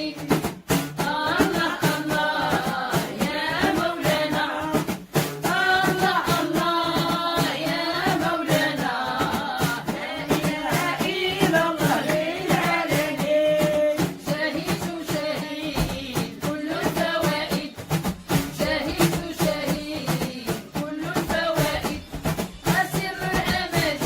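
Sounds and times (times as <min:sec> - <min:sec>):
steady percussive beat: 0:00.0 - 0:24.0
voices chanting a melody: 0:01.0 - 0:18.0, 0:18.6 - 0:24.0.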